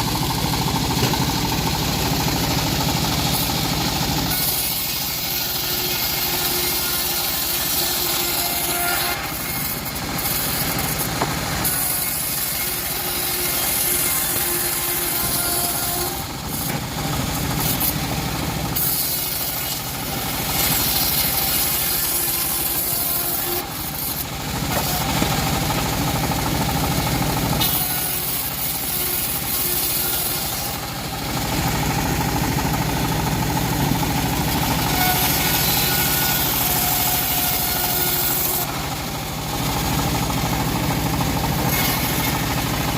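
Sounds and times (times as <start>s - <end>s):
band saw cutting wood: 0.0s - 42.9s.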